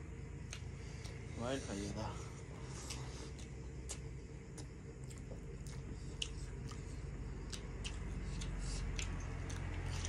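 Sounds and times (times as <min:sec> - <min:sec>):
low hum: 0:00.0 - 0:10.0
chewing: 0:00.4 - 0:10.0.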